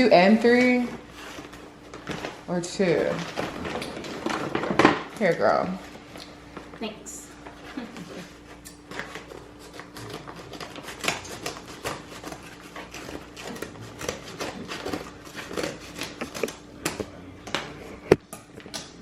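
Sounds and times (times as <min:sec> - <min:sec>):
paper crinkling and rustling: 0:00.6 - 0:06.8, 0:07.4 - 0:17.0.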